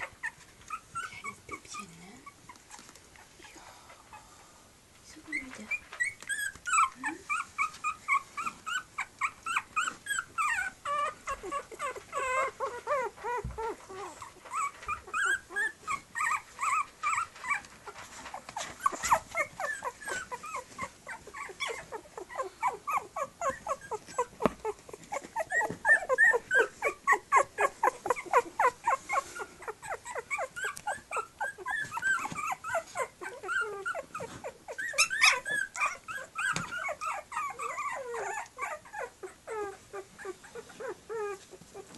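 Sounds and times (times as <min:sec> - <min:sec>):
puppies whimpering and squeaking: 0:00.0 - 0:03.5, 0:05.2 - 0:41.9.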